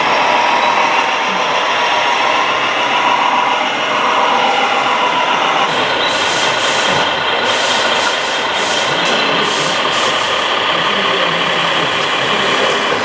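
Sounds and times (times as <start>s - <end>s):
engine-like mechanical hum: 0.0s - 13.0s
rhythmic high hissing pulse: 0.0s - 13.0s.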